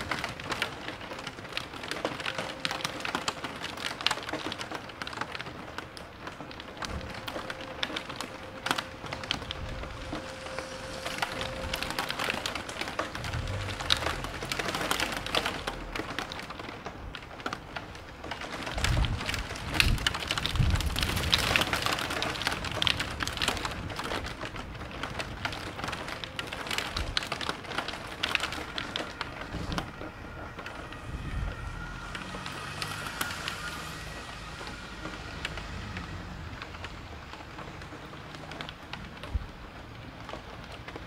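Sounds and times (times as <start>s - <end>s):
heavy rain pouring: 0.0s - 41.0s
low rumbles: 6.3s - 39.7s.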